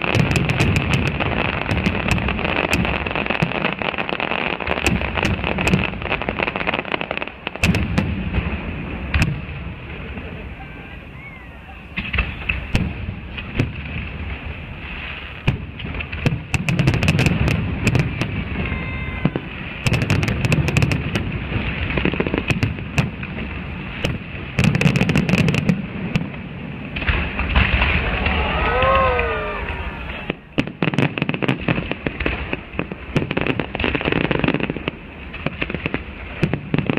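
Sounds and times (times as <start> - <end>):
fireworks crackling bangs: 0.0 - 36.9
low fireworks booms: 0.0 - 36.9.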